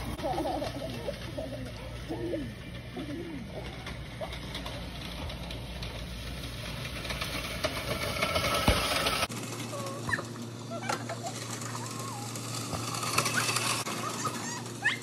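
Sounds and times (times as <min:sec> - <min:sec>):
reel mower blades whirring: 0:00.0 - 0:15.0.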